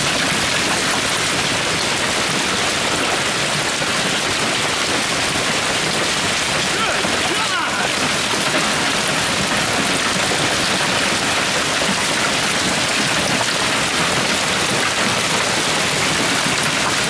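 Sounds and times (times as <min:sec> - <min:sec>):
hail and heavy rain falling: 0:00.0 - 0:17.0.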